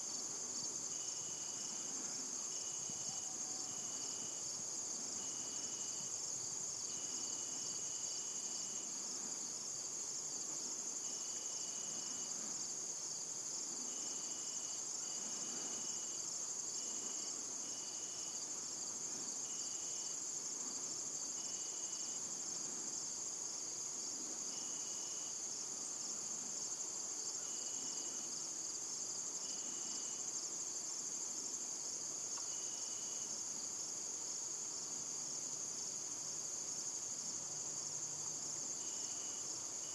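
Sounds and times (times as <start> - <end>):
crickets chirping: 0.0 - 39.9
insect trills: 0.0 - 39.9.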